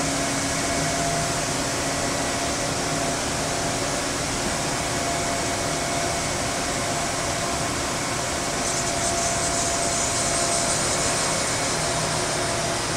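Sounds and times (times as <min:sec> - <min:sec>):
faint constant whine: 0:00.0 - 0:12.9
machining center hum and hiss: 0:00.0 - 0:12.9.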